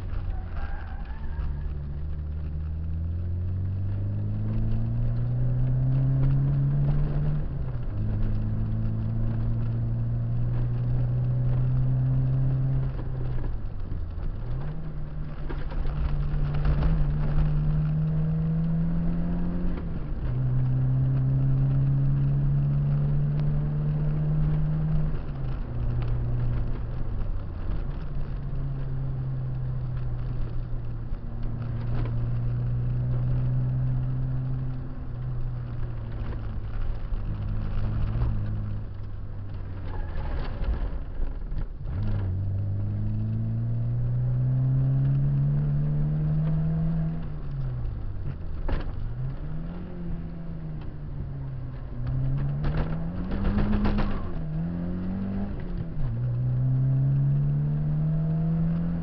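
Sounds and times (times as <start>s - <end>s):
car engine revving through gears: 0.0s - 59.0s
road noise: 0.0s - 59.0s.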